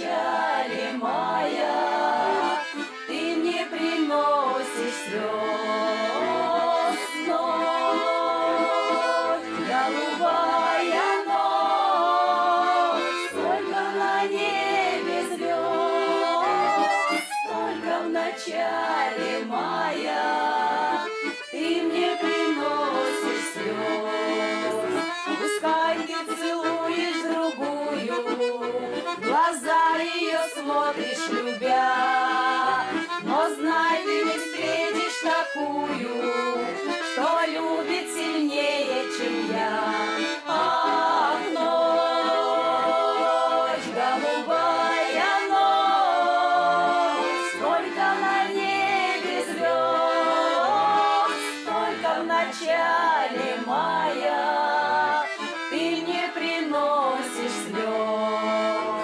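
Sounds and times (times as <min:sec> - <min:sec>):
accordion melody: 0:00.0 - 0:59.0.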